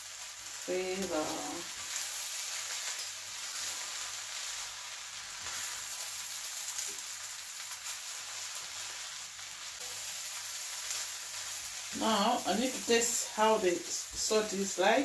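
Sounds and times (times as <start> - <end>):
rice sizzling in a pan: 0.0 - 15.0.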